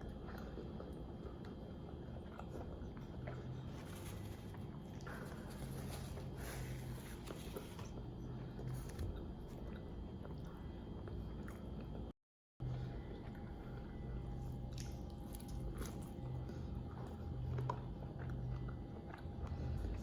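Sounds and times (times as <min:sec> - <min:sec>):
chewing and crunching food: 0:00.0 - 0:20.0
steady low hum: 0:00.0 - 0:20.0.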